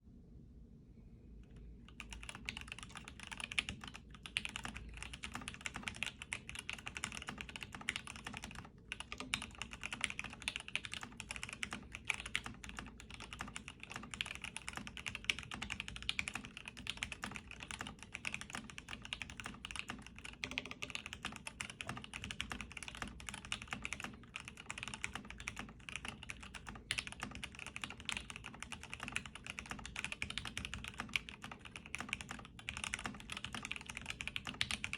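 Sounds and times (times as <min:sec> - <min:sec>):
fast typing on mechanical keyboard: 0:01.9 - 0:34.9.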